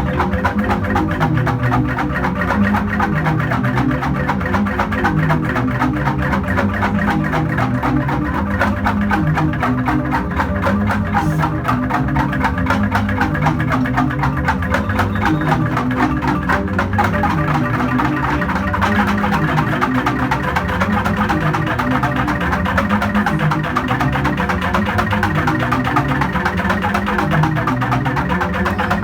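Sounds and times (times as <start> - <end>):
bamboo tubes struck fast: 0.0 - 29.0
deep bamboo bass notes: 0.0 - 29.0.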